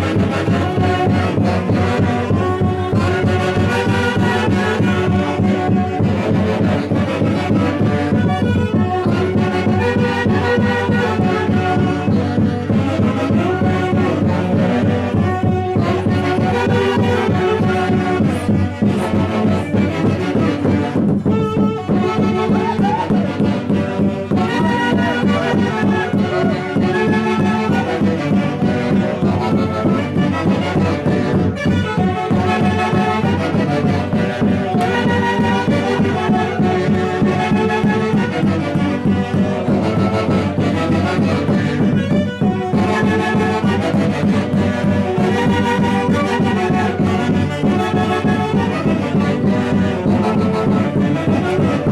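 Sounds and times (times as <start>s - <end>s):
fast steady drum beat: 0.0s - 51.8s
wind instruments playing melody: 0.0s - 51.9s.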